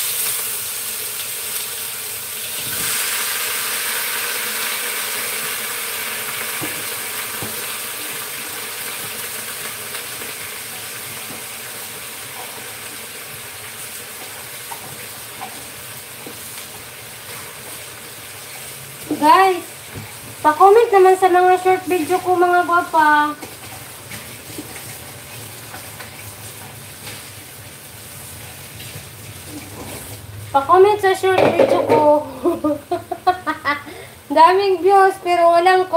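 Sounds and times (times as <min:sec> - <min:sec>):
food sizzling in a hot pan: 0:00.0 - 0:35.9.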